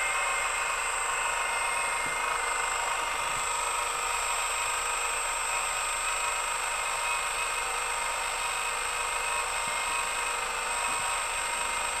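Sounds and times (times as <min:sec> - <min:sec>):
hydraulic pump whine: 0:00.0 - 0:12.0.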